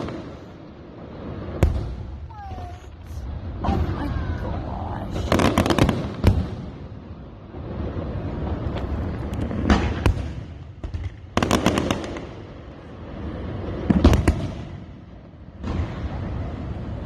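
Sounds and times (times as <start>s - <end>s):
rapid firework crackling: 0.0s - 4.1s, 5.1s - 17.0s
firework bangs: 0.0s - 17.0s.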